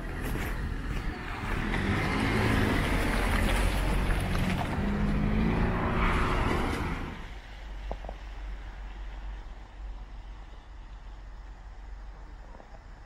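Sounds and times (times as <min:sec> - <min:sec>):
tyres swishing on wet road: 0:00.0 - 0:12.0
car engine hum: 0:00.0 - 0:13.0.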